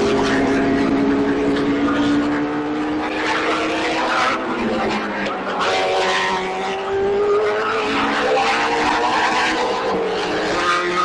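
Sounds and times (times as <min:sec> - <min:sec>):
racing car engines at high revs: 0:00.0 - 0:11.0.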